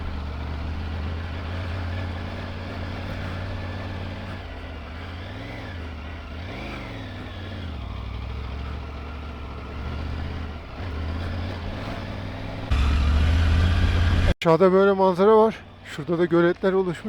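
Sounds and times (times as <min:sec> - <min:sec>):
motorcycle engine running at low revs: 0:00.0 - 0:14.4.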